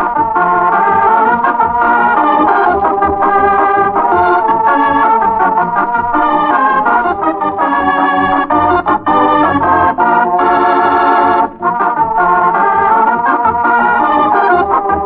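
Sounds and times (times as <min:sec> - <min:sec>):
electric organ playing chords: 0:00.0 - 0:15.0.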